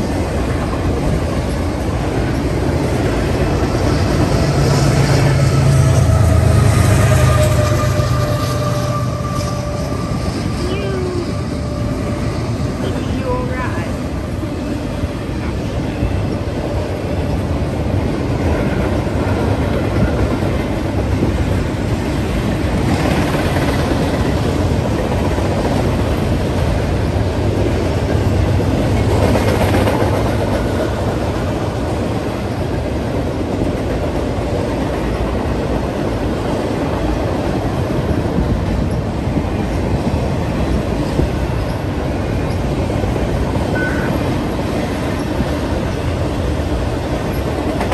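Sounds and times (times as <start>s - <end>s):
freight train rumble and clatter: 0.0s - 47.9s.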